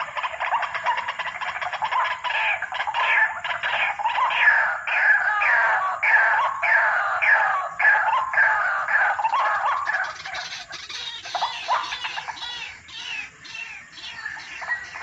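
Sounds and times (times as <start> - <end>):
bird harsh repeated calls: 0.0 - 15.0.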